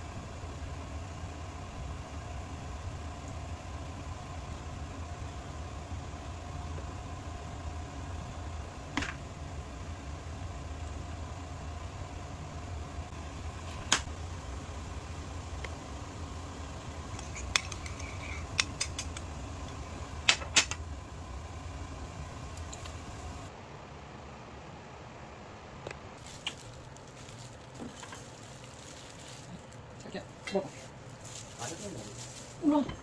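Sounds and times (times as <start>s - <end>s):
fan humming: 0.0s - 33.0s.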